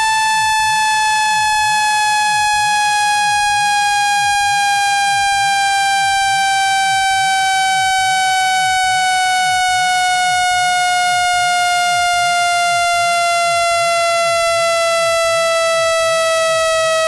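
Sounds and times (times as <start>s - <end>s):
buzzy electronic hum: 0.0s - 17.0s.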